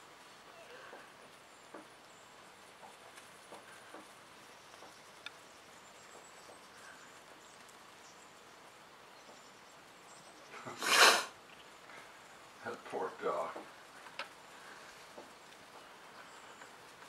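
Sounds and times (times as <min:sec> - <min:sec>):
faint distant puppies playing: 0:00.0 - 0:17.0.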